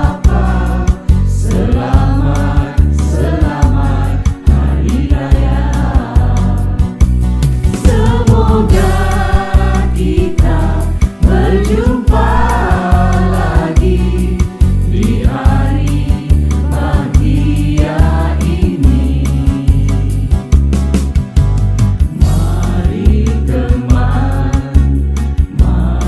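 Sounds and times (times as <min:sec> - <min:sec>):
group of voices singing: 0:00.0 - 0:20.7, 0:22.1 - 0:26.0
backing band with drums and bass: 0:00.0 - 0:26.0.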